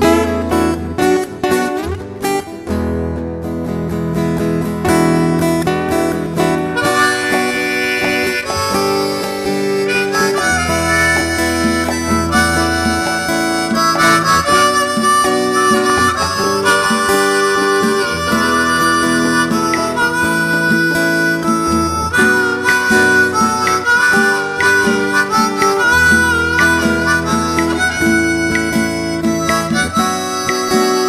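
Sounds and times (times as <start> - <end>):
harmonica melody: 0.0 - 2.8, 4.8 - 31.0
acoustic guitar: 0.0 - 31.0.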